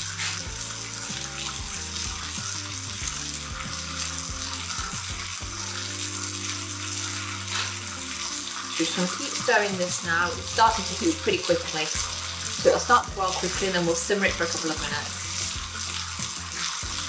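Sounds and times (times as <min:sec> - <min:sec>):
fruit sizzling in griddle pan: 0:00.0 - 0:17.0.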